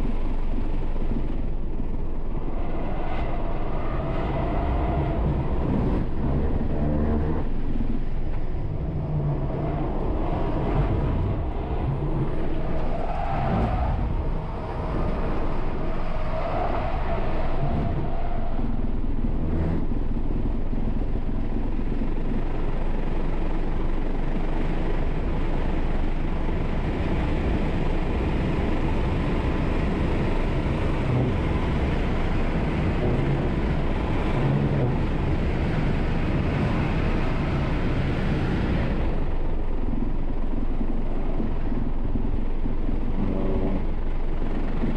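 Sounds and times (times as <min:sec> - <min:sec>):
tyre and road noise: 0:00.0 - 0:44.9.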